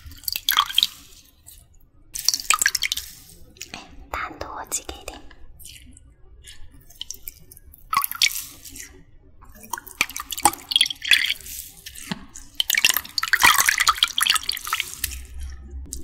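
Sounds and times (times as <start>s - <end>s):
water splashing and dripping: 0.0s - 4.0s, 5.6s - 16.0s.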